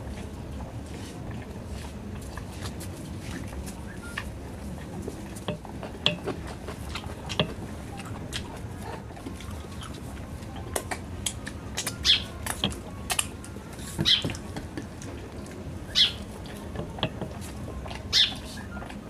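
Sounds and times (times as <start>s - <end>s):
chewing and lip smacking: 0.0s - 19.0s.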